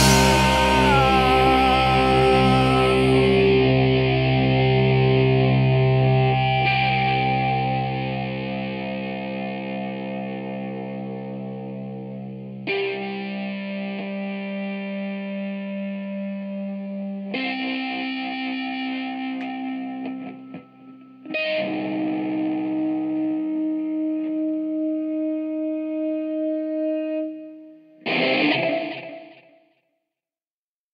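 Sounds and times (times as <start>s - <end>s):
distorted electric guitar chords: 0.0s - 29.6s.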